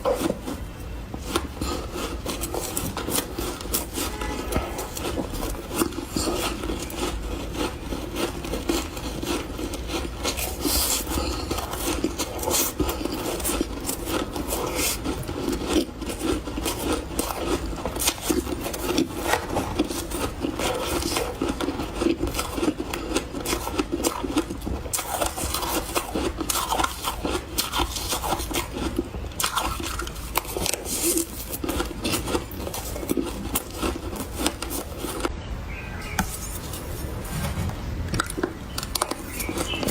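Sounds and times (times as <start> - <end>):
chewing crunchy ice: 0.0 - 37.0, 38.2 - 39.9.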